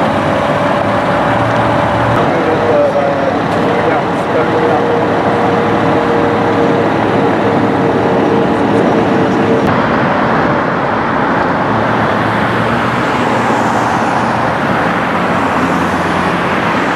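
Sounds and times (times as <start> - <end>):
freeway traffic rushing: 0.0 - 16.9
steady hum: 0.0 - 16.9.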